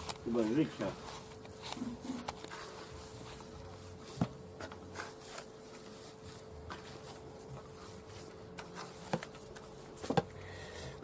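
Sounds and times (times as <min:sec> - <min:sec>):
hands kneading minced meat: 0:00.0 - 0:10.4.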